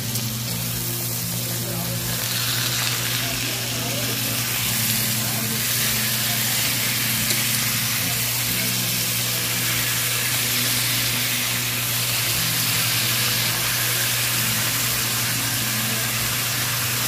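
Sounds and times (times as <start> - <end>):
steaks sizzling in pan: 0.0 - 17.0.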